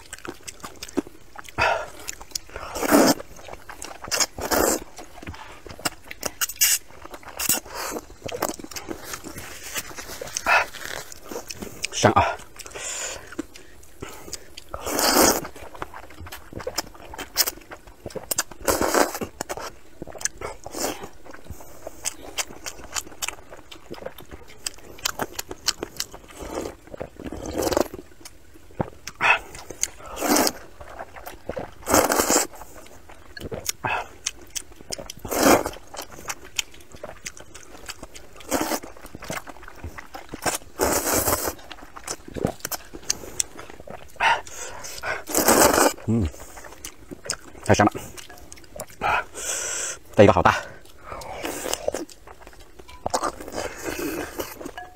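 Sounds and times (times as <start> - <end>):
wet chewing: 0.0 - 54.9
noodles being slurped: 1.6 - 24.1, 28.8 - 54.9.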